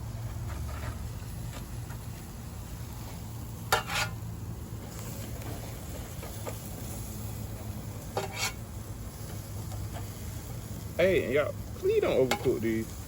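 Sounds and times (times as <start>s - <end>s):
burgers sizzling on grill: 0.0s - 13.0s.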